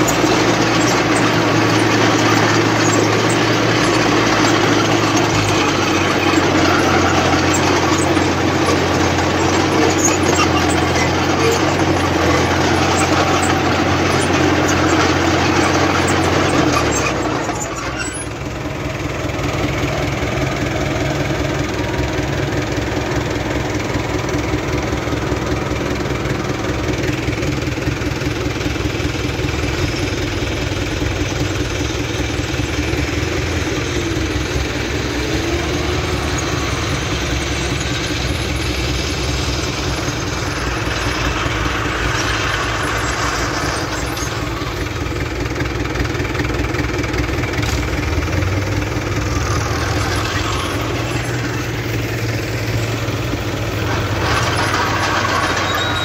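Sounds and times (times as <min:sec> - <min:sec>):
diesel tractor engine running: 0:00.0 - 0:56.0
distant tractors working: 0:00.0 - 0:56.0.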